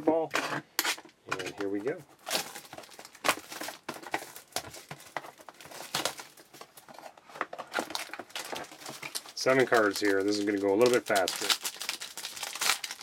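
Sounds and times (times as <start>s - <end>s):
wrapper crinkling and tearing: 1.7s - 13.0s.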